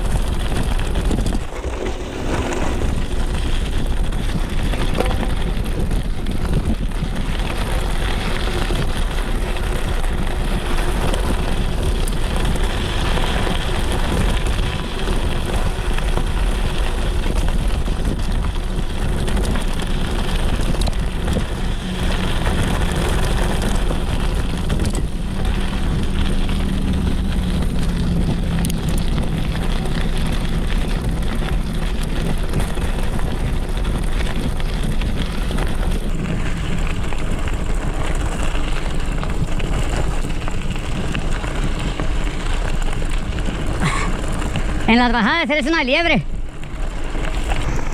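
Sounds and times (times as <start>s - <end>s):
bike tyres rumbling on dirt: 0.0s - 47.9s
wind on microphone: 0.0s - 47.9s.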